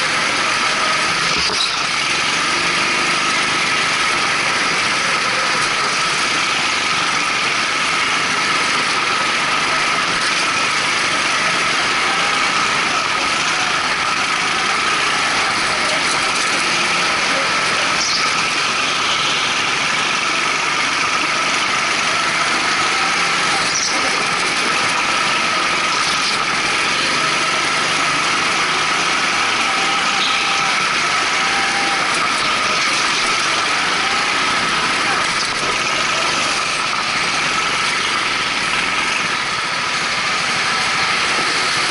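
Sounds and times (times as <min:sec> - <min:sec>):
go-kart engine running: 0:00.0 - 0:41.9.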